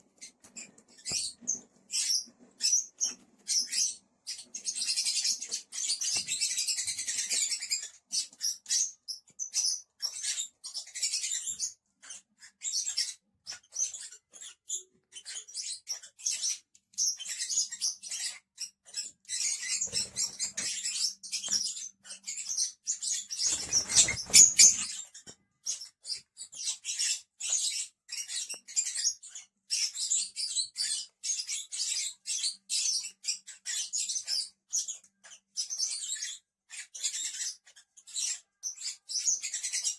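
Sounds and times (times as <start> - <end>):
lovebirds chattering: 0.1 - 39.9.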